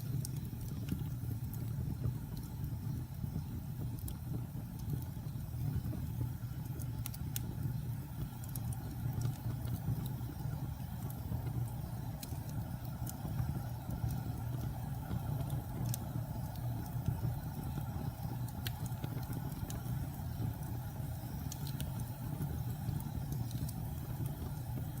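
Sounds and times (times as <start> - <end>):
fire crackles and pops: 0.0 - 25.0
low roar of flames: 0.0 - 25.0.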